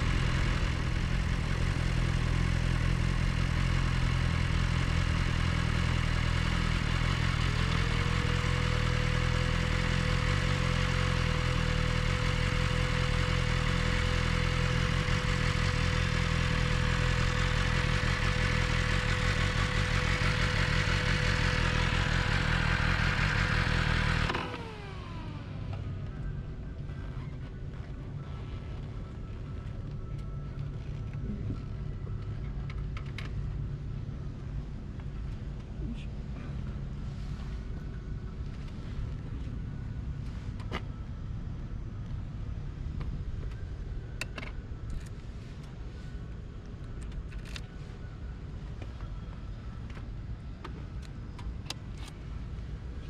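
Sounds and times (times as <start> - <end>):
motorcycle engine with whine: 0.0 - 53.0.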